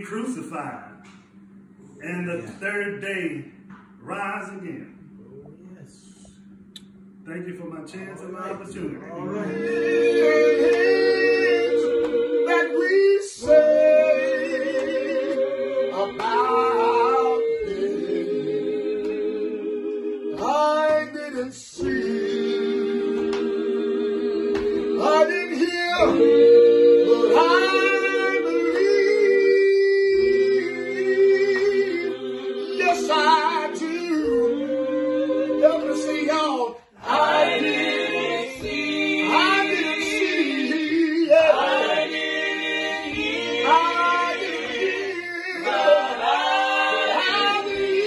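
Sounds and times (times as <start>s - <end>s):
voices singing a hymn: 5.8s - 48.0s.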